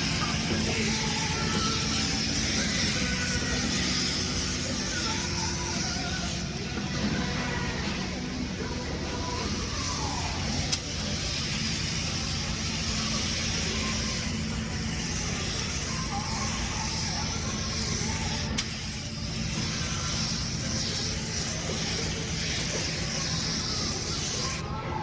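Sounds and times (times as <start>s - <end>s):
spray gun hissing: 0.0s - 6.4s, 7.7s - 24.6s.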